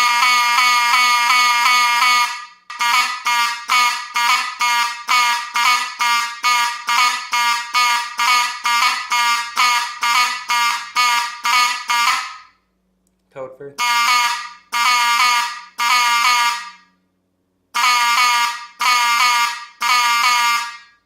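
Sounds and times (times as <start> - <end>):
buzzy fire alarm horn: 0.0 - 12.6, 13.8 - 17.0, 17.7 - 21.0.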